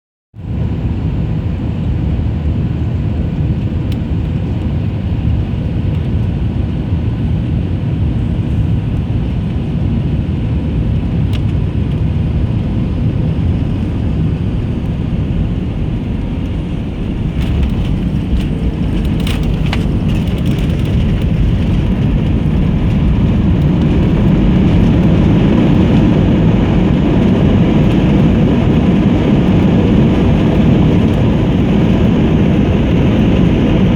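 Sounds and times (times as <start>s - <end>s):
airliner engines roaring: 0.4s - 33.9s.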